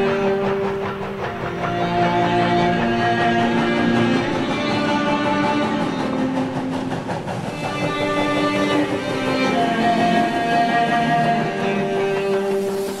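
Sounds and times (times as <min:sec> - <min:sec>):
cello playing held notes: 0:00.0 - 0:13.0.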